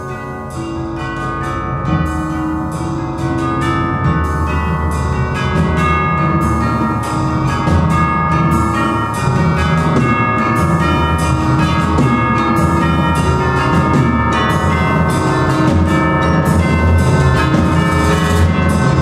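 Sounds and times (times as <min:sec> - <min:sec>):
mallet percussion chords: 0:00.0 - 0:19.0
drums: 0:00.2 - 0:19.0.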